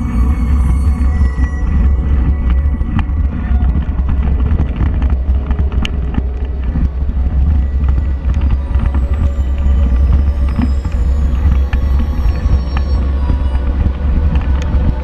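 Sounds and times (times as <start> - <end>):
wind rumble on microphone: 0.0 - 15.0
bike clicks and rattles: 1.7 - 15.0.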